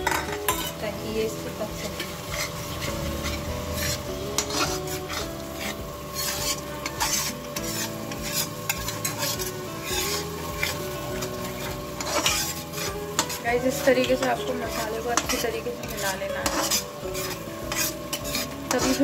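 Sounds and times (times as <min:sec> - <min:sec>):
masala sizzling: 0:00.0 - 0:19.0
spatula scraping pan: 0:00.0 - 0:19.0.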